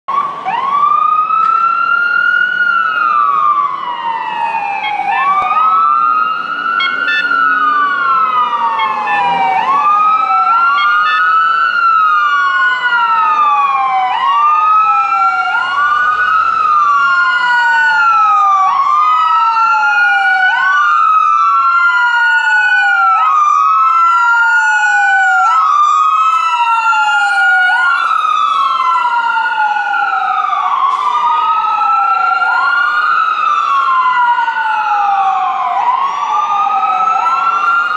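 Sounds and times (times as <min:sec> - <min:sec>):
fire engine wail siren: 0:00.1 - 0:37.9
second wail siren: 0:00.1 - 0:37.9.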